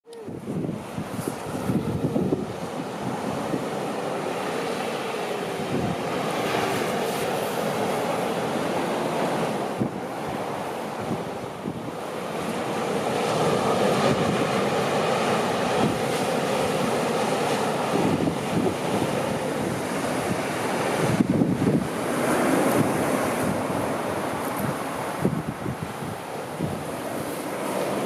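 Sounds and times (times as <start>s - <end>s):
surf breaking and washing up: 0.1s - 28.0s.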